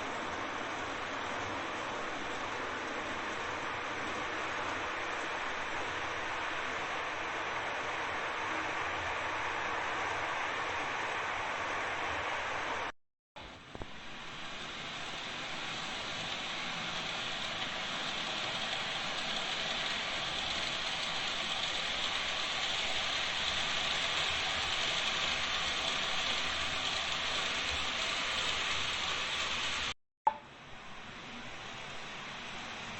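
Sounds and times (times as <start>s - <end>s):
model train whirring on track: 0.0s - 12.9s, 13.5s - 29.9s, 30.7s - 32.9s.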